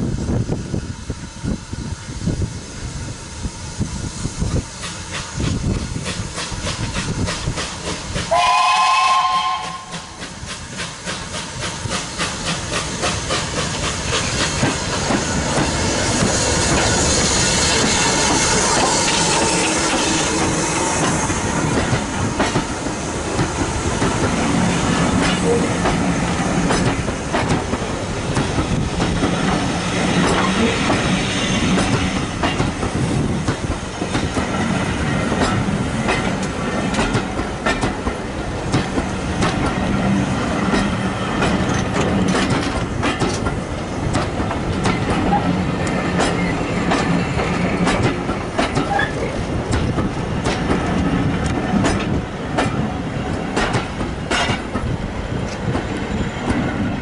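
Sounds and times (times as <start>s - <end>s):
steam hiss: 0.0s - 50.9s
steady train rumble: 0.0s - 57.0s
train wheels clicking over rail joints: 3.3s - 57.0s.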